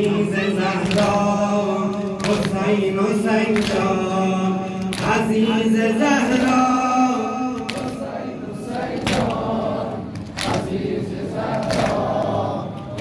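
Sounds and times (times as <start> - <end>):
male voices chanting lament: 0.0 - 13.0.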